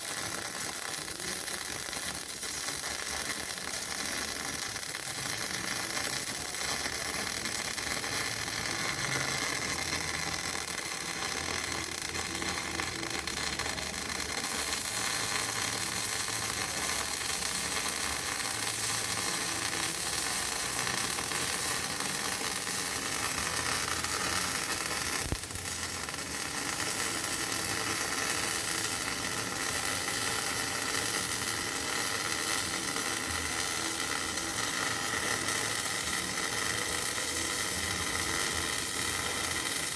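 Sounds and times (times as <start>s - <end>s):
welding arc crackling sizzle: 0.0s - 39.9s.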